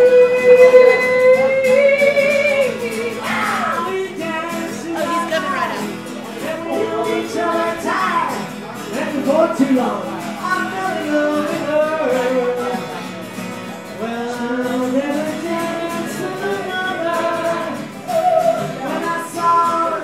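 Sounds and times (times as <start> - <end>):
person singing: 0.0 - 13.2, 13.9 - 20.0
acoustic guitars playing: 0.0 - 20.0.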